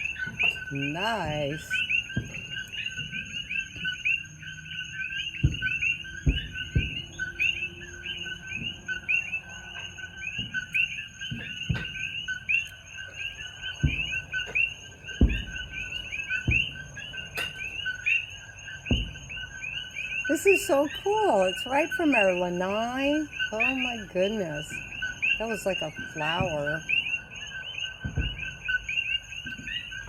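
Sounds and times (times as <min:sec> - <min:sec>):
distant fireworks booms: 0:00.0 - 0:30.0
frogs chirping: 0:00.0 - 0:30.0.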